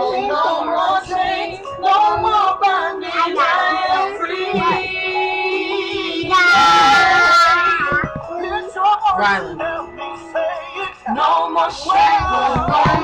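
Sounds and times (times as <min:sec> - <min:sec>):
children singing along to music: 0:00.0 - 0:13.0.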